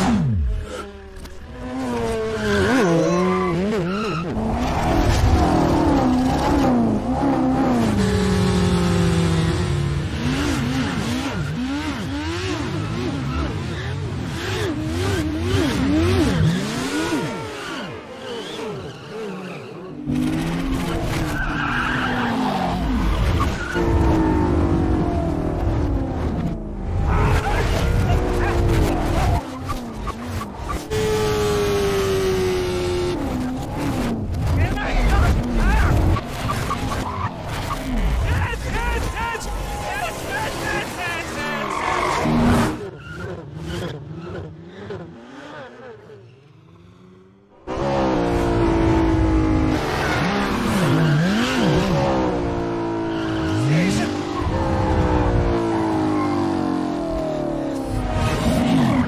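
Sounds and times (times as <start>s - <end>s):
car and motorcycle engines: 0.0s - 59.0s.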